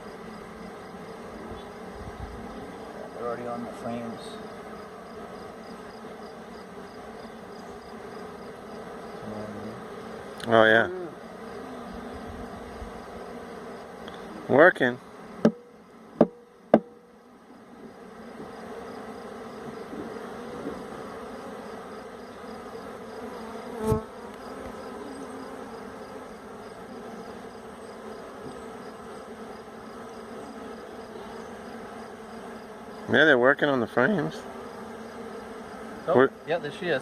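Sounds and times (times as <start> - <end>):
bee swarm buzzing: 0.0 - 37.0.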